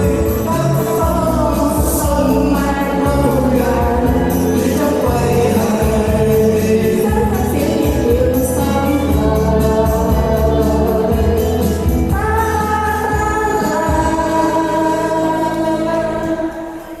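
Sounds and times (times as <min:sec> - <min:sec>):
musical accompaniment: 0:00.0 - 0:17.0
person singing: 0:00.0 - 0:17.0.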